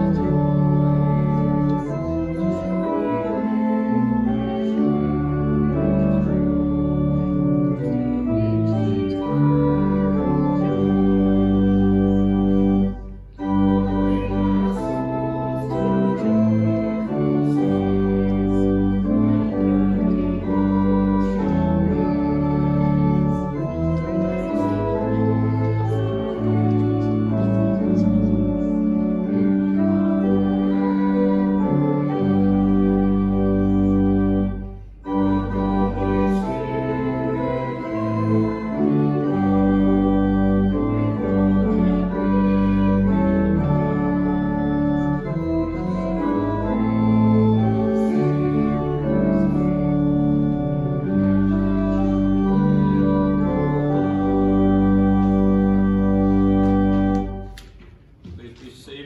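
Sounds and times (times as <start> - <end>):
church organ playing hymn: 0.0 - 59.0.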